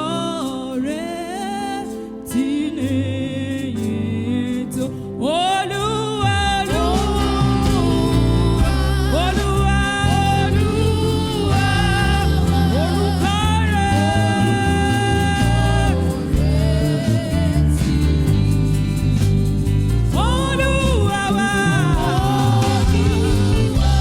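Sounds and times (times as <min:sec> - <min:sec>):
instrumental backing with bass: 0:00.0 - 0:24.0
person singing gospel: 0:00.0 - 0:24.0.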